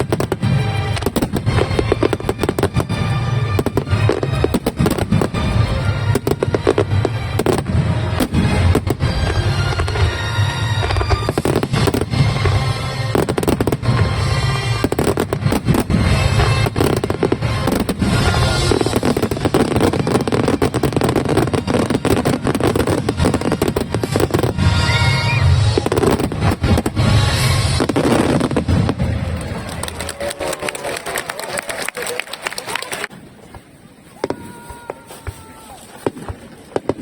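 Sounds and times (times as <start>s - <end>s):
music playing: 0.0s - 30.1s
fireworks low booms: 0.0s - 30.4s, 33.1s - 37.0s
fireworks crackling bursts: 0.0s - 37.0s.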